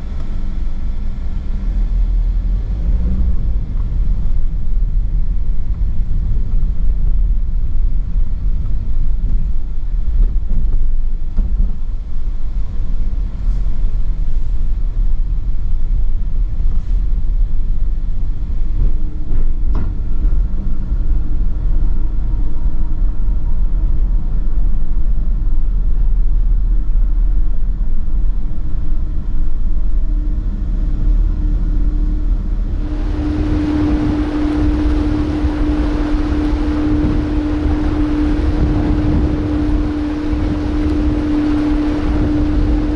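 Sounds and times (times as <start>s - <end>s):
faint steady hum: 0.0s - 42.9s
low engine rumble: 0.0s - 42.9s.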